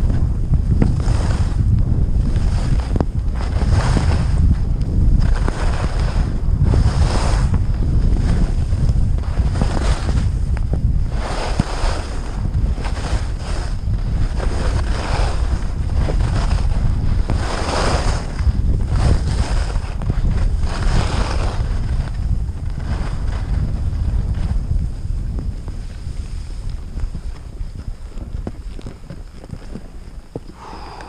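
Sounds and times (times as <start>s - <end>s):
skis swishing on snow: 0.0s - 31.0s
wind buffeting microphone: 0.0s - 31.0s.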